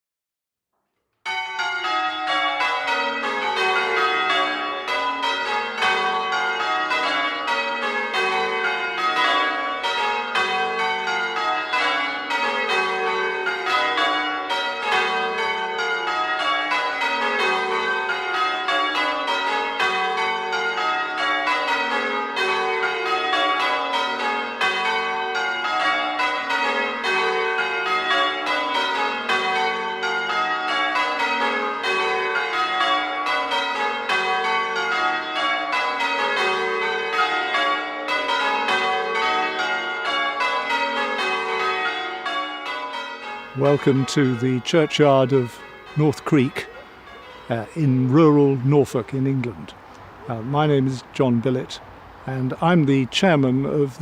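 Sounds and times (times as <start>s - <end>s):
church bells change ringing: 1.2s - 54.0s.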